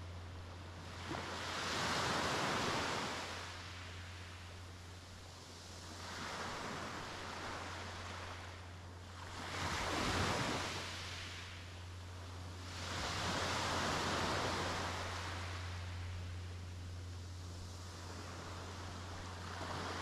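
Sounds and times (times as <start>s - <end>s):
steady low hum: 0.0s - 20.0s
sea waves breaking on beach: 0.7s - 20.0s.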